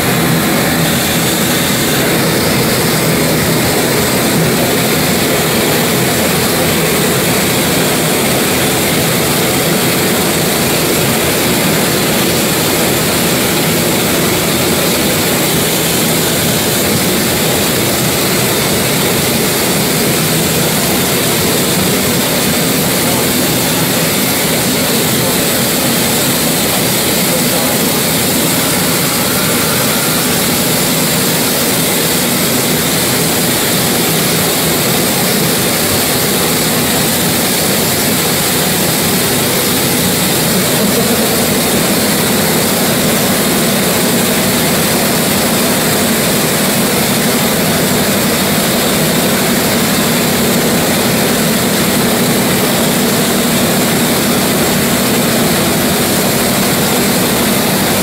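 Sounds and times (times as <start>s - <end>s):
blow lamps burning: 0.0s - 58.0s.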